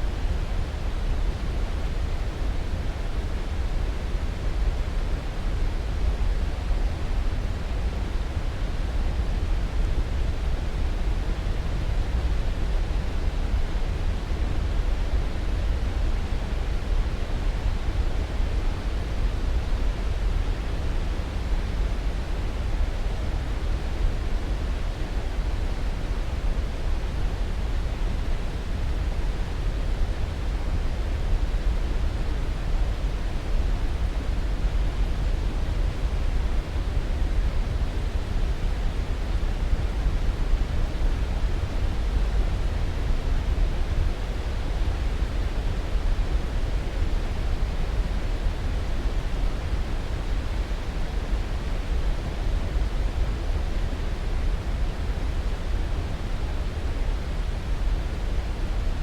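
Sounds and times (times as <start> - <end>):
white noise: 0.0 - 59.0.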